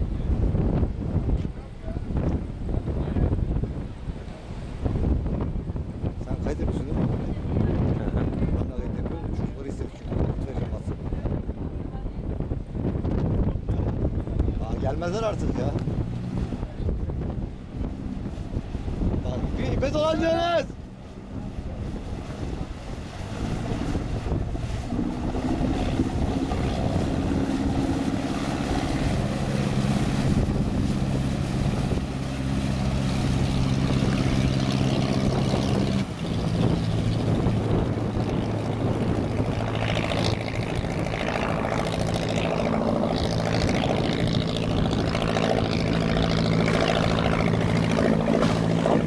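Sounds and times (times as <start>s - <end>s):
motorboat engine running: 0.0s - 49.0s.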